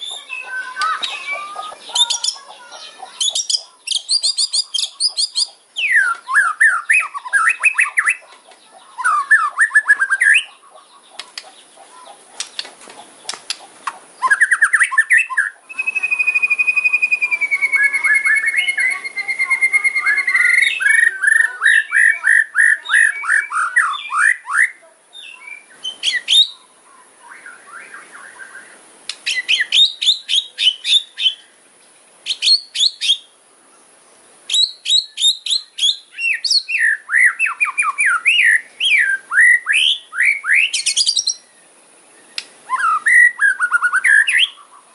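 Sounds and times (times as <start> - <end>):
songbird singing rapid trills: 0.0 - 44.9.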